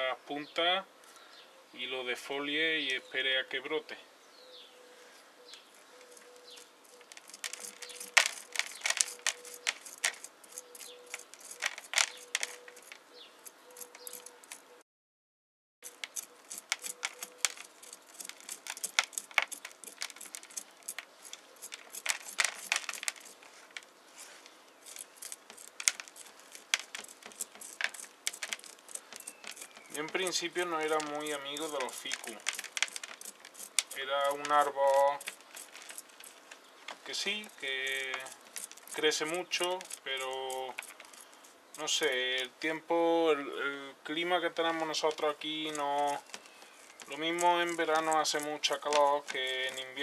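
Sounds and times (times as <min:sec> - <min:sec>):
soil and roots crumbling: 0:05.5 - 0:14.6, 0:15.8 - 0:43.4, 0:44.1 - 0:50.0.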